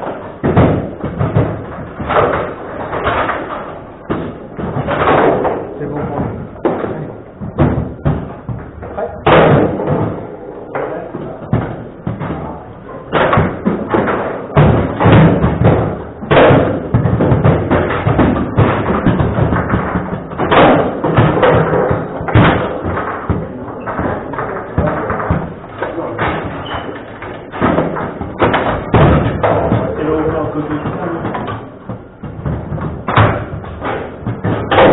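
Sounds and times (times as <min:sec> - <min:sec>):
sharp knocks and thuds of rods: 0:00.0 - 0:34.9
table football ball rattling: 0:00.0 - 0:34.9.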